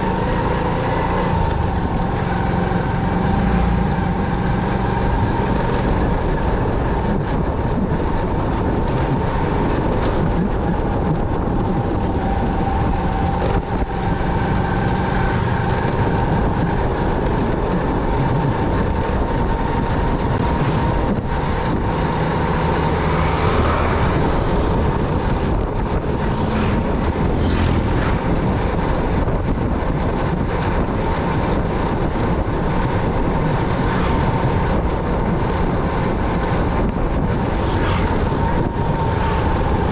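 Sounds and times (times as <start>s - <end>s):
motorcycle engine and road noise: 0.0s - 39.9s.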